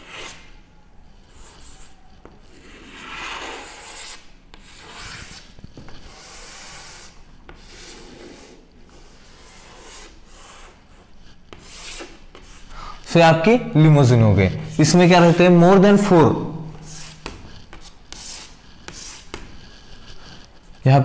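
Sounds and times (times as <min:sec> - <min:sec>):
chalk scraping on blackboard: 0:00.0 - 0:00.6, 0:01.2 - 0:13.1, 0:14.7 - 0:20.8.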